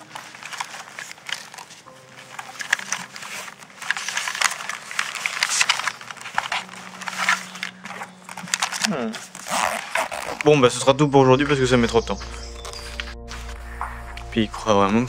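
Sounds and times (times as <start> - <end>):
cables shifting with clicks: 0.0 - 15.0
fabric rustling: 0.0 - 15.0.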